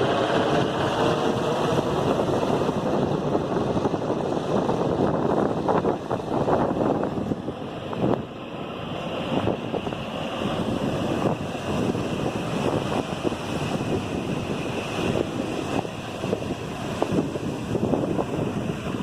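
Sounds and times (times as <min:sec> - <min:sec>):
surf breaking on shore: 0:00.0 - 0:19.0
wind buffeting microphone: 0:00.0 - 0:19.0.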